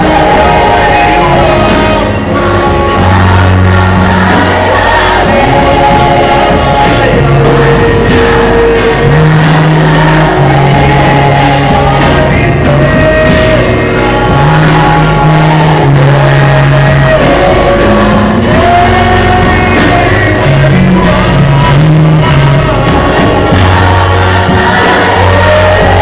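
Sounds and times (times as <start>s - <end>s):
band accompaniment: 0.0s - 26.0s
choir singing: 0.0s - 26.0s
held bass notes: 0.0s - 26.0s
man singing lead into microphone: 0.0s - 26.0s.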